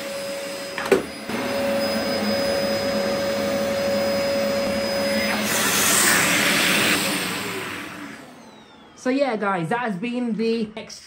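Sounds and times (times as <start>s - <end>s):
vacuum cleaner running: 0.0s - 10.9s.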